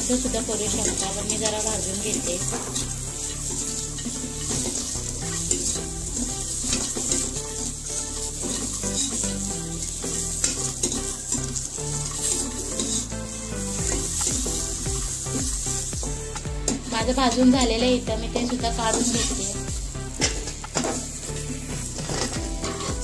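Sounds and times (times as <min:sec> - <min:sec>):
vegetables sizzling in a pan: 0:00.0 - 0:23.0
steel spoon scraping a pan: 0:00.1 - 0:17.4, 0:18.4 - 0:23.0.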